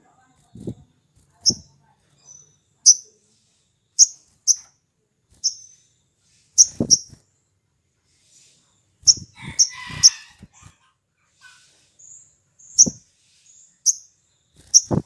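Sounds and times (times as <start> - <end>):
bird chirping: 0.2 - 15.0.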